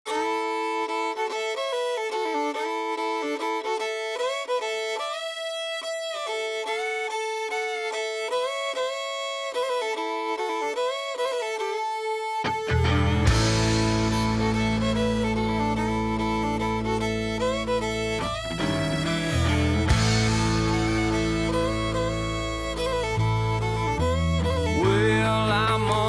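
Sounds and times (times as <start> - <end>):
solo fiddle melody over drone: 0.1 - 26.0.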